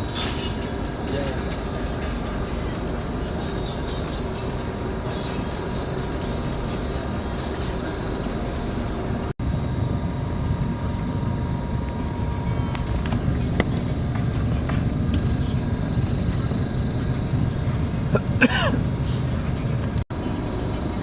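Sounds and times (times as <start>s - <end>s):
coach engine rumble: 0.0s - 21.0s.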